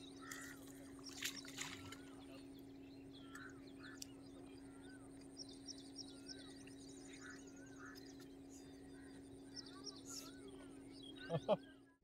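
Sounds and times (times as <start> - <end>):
faint birdsong: 0.0 - 12.0
faint steady hum: 0.0 - 12.0.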